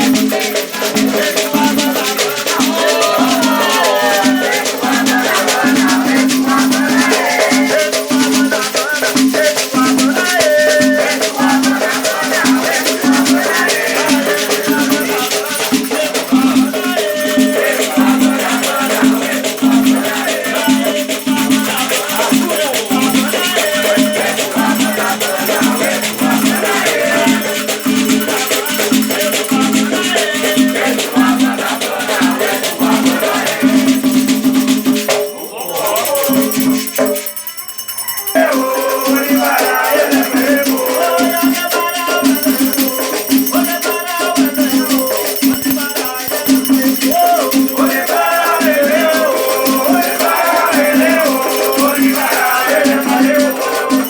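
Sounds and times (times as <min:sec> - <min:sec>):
group singing: 0:00.0 - 0:37.2, 0:38.2 - 0:54.0
rattles shaken rhythmically: 0:00.0 - 0:54.0.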